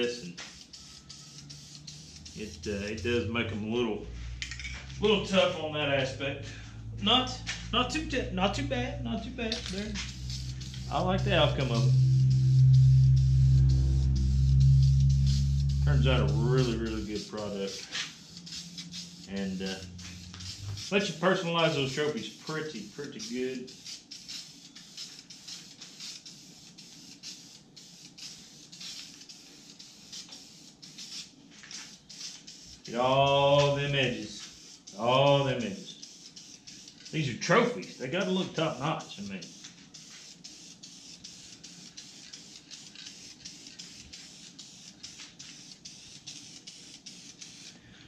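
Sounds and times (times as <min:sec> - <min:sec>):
aerosol spray can hissing: 0:00.0 - 0:04.6, 0:09.3 - 0:47.9.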